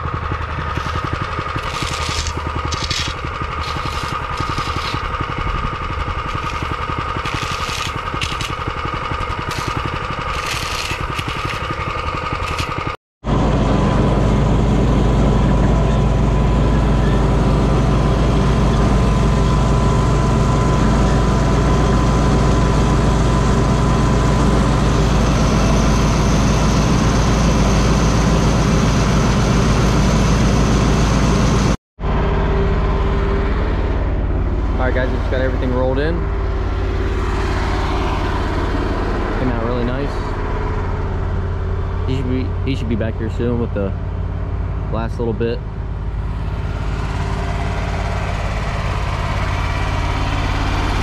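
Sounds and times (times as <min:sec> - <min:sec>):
deep engine drone: 0:00.0 - 0:51.0
paving machine engines running: 0:00.0 - 0:51.0.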